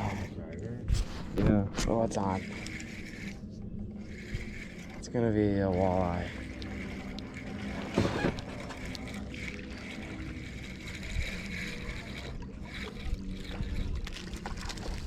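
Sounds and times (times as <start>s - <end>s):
low steady hum: 0.0s - 15.0s
water against boat hull: 0.0s - 15.0s.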